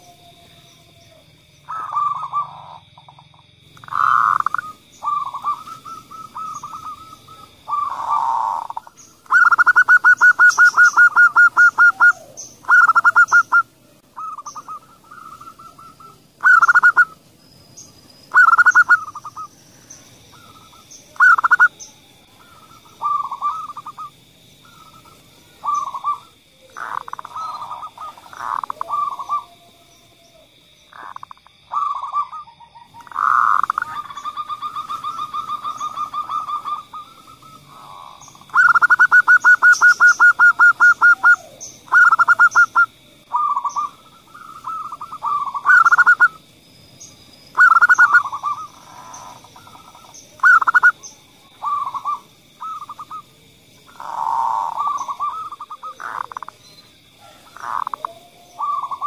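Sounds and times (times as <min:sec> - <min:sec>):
doves cooing: 0:00.0 - 0:17.2, 0:18.3 - 0:46.4, 0:47.0 - 0:59.0.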